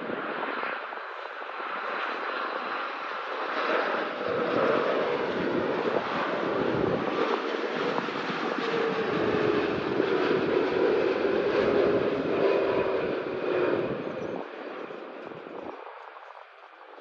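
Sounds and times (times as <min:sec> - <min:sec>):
jet airliner engines passing: 0:00.0 - 0:17.0.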